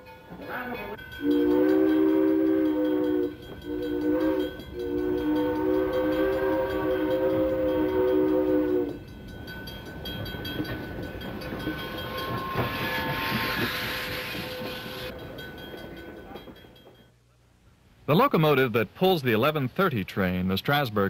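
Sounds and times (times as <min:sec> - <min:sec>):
steam locomotive chime whistle: 0:00.0 - 0:17.0
train running rumble: 0:00.1 - 0:17.1.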